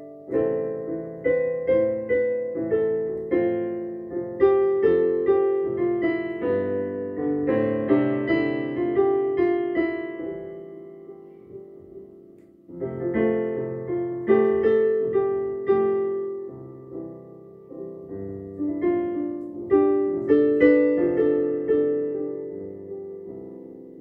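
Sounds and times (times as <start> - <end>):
solo piano slow piece: 0.0 - 24.0.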